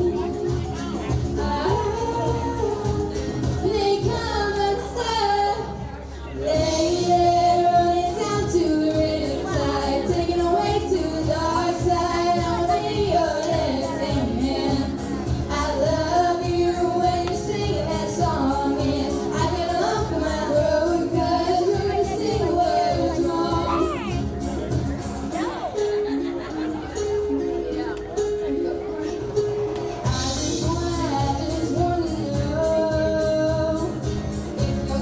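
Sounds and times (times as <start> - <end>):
instrumental accompaniment: 6.4 - 35.0.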